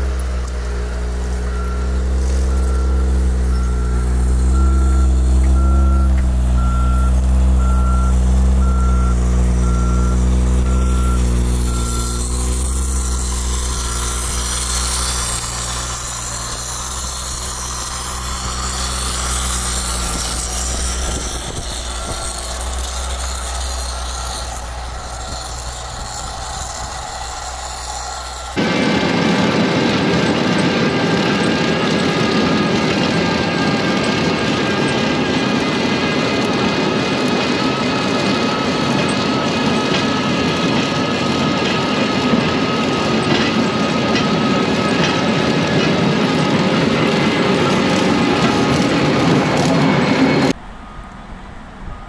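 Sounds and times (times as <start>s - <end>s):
heavy vehicle engine running: 0.0s - 52.0s
reversing alarm beeping: 0.0s - 52.0s.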